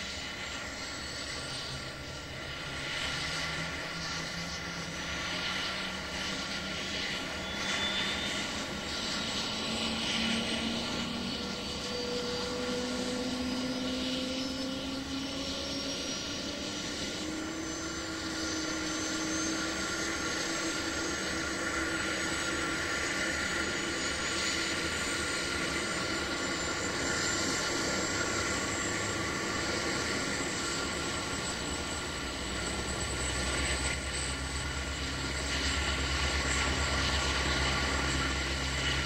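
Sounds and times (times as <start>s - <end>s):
aircraft whirring hum: 0.0s - 39.0s.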